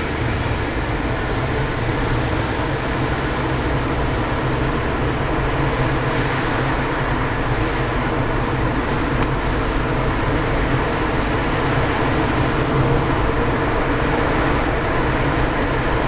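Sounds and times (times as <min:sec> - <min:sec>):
car engine hum: 0:00.0 - 0:16.0
tyre and road rumble: 0:00.0 - 0:16.0.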